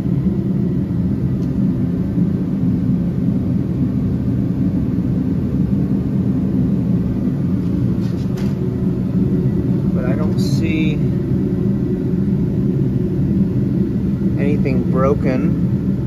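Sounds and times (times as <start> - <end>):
low machine drone: 0.0 - 16.0.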